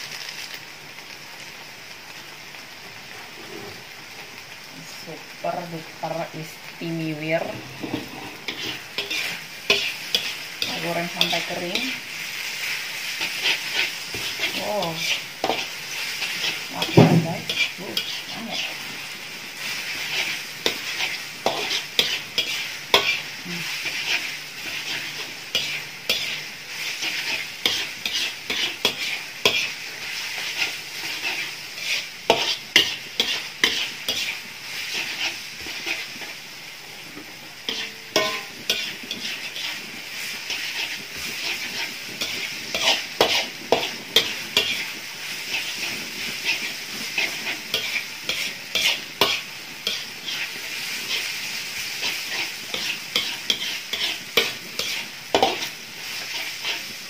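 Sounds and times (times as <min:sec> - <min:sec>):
noodles sizzling in oil: 0:00.0 - 0:57.0
spatula scraping a wok: 0:03.0 - 0:04.2, 0:07.2 - 0:57.0.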